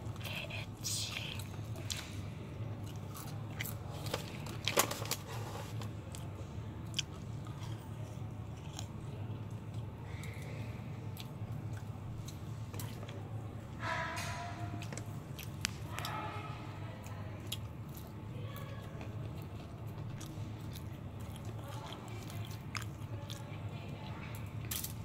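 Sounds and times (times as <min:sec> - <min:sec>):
low steady hum: 0:00.0 - 0:25.0
crunchy chewing: 0:00.1 - 0:25.0.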